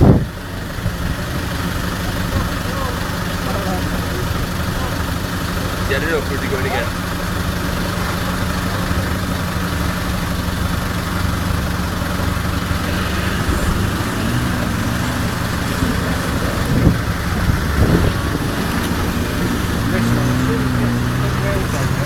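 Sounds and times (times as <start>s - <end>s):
engine running at low revs: 0.0s - 22.0s.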